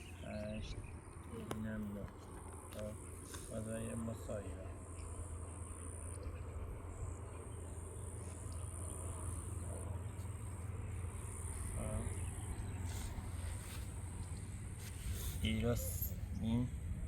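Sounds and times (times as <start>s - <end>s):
insects trilling: 0.0s - 17.0s
low steady hum: 0.0s - 17.0s.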